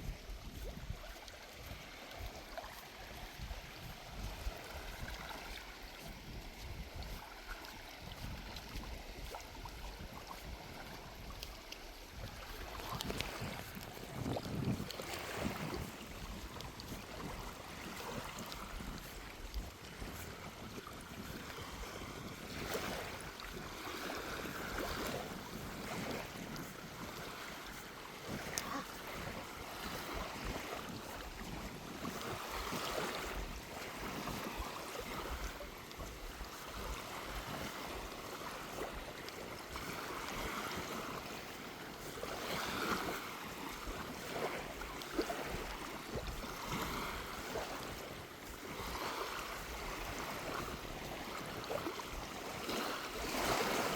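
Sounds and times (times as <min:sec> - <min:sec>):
waves lapping on sandy shore: 0:00.0 - 0:53.9
wind rumbling on microphone: 0:00.0 - 0:53.9.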